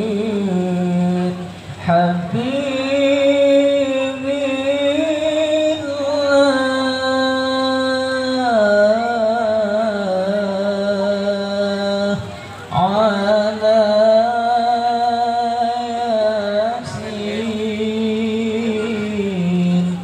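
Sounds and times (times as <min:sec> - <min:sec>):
chant-like singing: 0:00.0 - 0:20.0.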